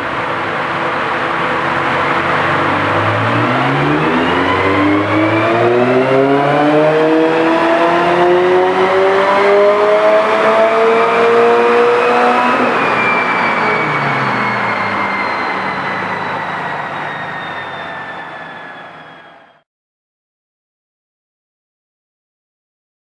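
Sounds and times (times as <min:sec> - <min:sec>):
car engine revving at full throttle: 0:00.0 - 0:19.2.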